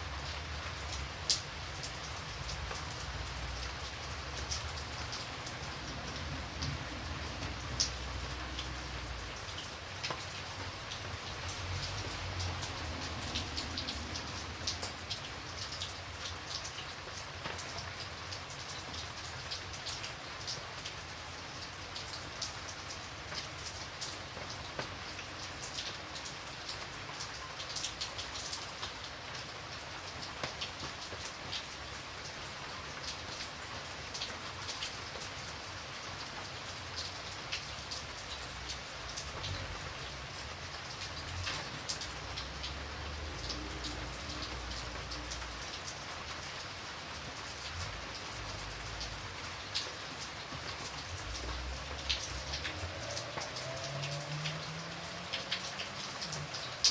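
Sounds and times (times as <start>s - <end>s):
light rain pattering: 0.0s - 56.9s.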